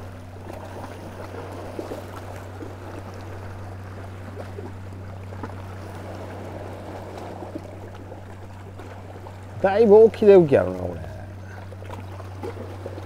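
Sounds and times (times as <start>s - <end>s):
low hum: 0.0s - 13.0s
small waves lapping: 0.0s - 13.0s.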